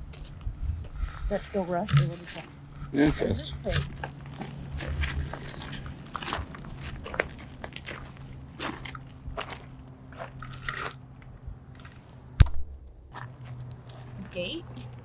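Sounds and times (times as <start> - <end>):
crunching footsteps: 0.0 - 15.0.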